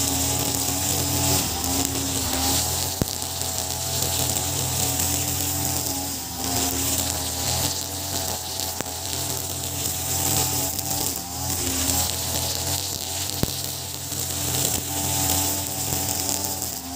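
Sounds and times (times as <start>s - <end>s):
brush cutter running: 0.0s - 16.9s
sharp ticks: 0.0s - 16.9s.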